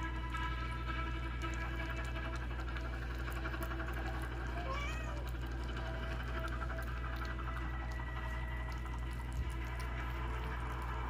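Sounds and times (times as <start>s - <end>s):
kitten lapping and chewing: 0.0s - 11.0s
low steady hum: 0.0s - 11.0s.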